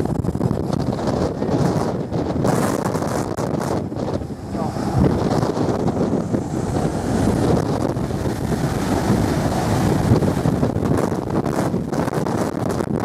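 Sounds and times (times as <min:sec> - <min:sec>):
jet blast wind noise: 0:00.0 - 0:13.0.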